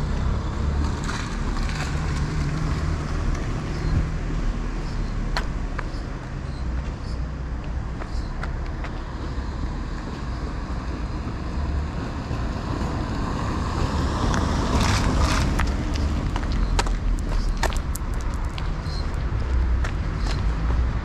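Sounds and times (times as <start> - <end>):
vehicle passing close by: 0.0 - 6.4, 8.9 - 21.0
street traffic: 0.0 - 21.0
wind rumble on microphone: 0.0 - 21.0.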